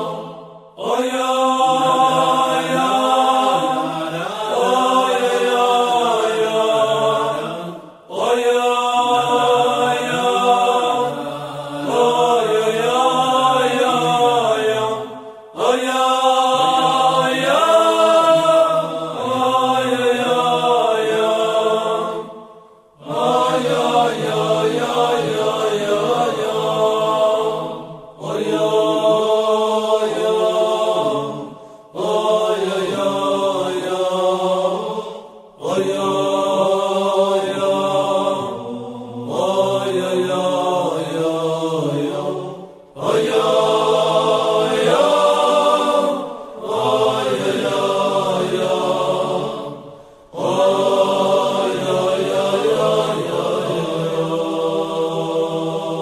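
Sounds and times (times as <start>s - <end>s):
men singing wordless melody: 0.0s - 56.0s.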